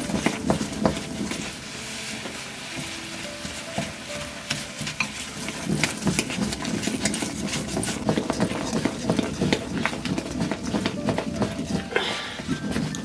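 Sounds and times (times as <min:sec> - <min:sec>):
greens hissing in pan: 0:00.0 - 0:13.0.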